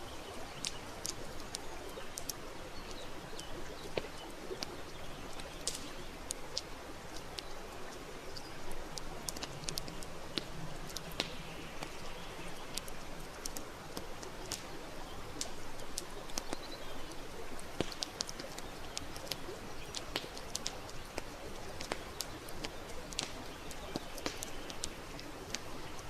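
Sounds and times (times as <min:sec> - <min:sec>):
campfire wood crackling: 0:00.0 - 0:26.0.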